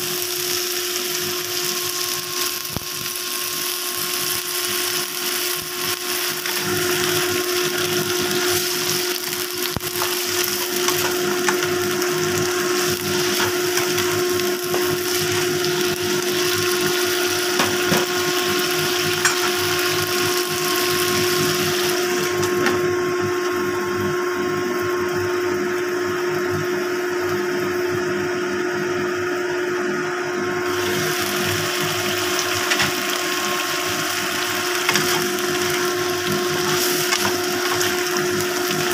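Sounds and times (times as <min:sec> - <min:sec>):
food sizzling in a wok: 0:00.0 - 0:38.9.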